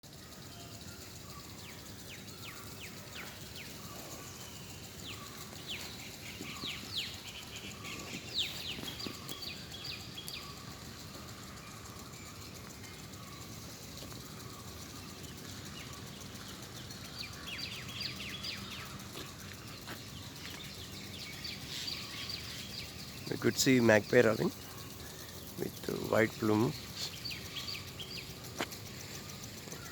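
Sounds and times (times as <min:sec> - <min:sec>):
small birds chirping: 0:00.1 - 0:29.9.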